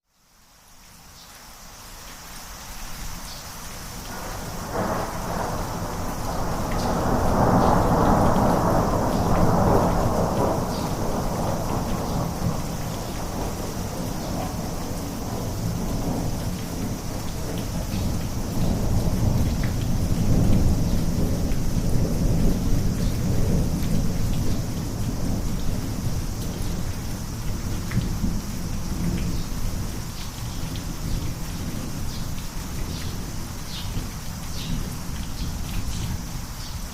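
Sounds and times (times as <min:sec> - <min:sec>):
rain: 0:00.0 - 0:36.9
rolling thunder: 0:04.1 - 0:36.3.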